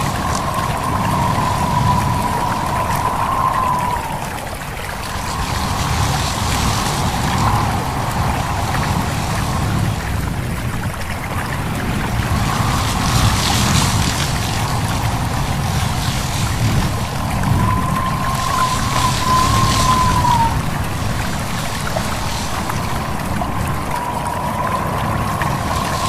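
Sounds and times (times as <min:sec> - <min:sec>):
stream babbling: 0:00.0 - 0:13.0, 0:13.8 - 0:26.0
leaves rustling: 0:00.0 - 0:26.0
wind blowing with whistle: 0:00.0 - 0:26.0.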